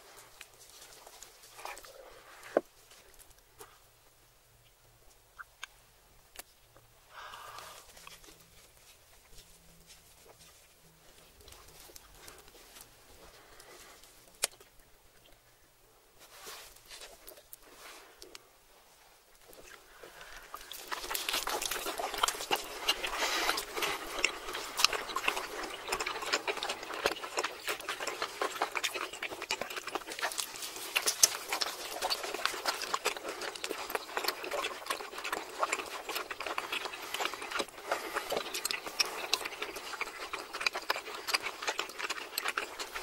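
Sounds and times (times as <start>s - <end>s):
wet chewing and mouth smacks: 0.0s - 3.8s, 7.5s - 15.5s, 19.3s - 43.0s.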